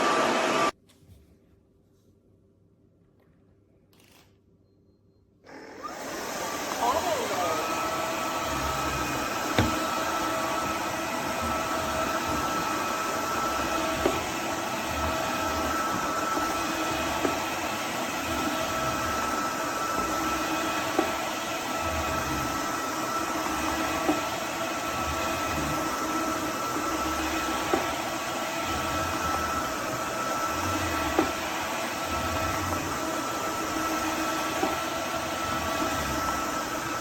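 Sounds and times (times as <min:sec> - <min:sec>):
vacuum mop motor whine: 0:00.0 - 0:00.7, 0:05.4 - 0:37.0.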